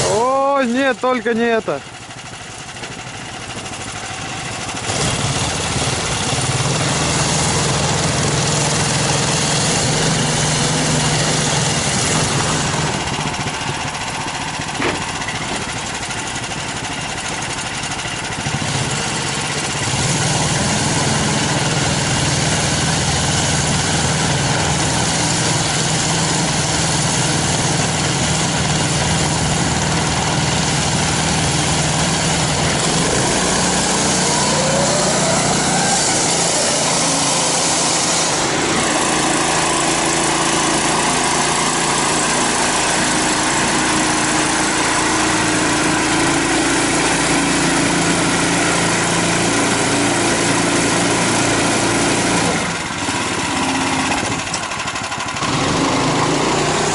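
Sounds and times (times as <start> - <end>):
all-terrain vehicle engine running: 0.0 - 56.9.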